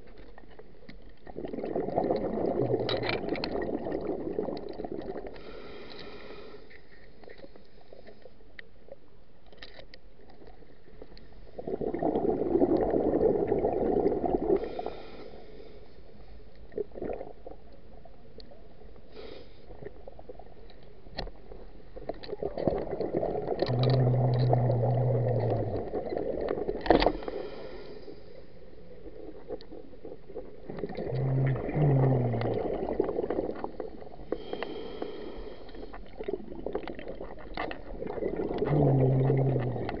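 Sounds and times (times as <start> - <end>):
regulator bubbles gurgling underwater: 0.0 - 5.7, 10.3 - 15.2, 16.6 - 40.0.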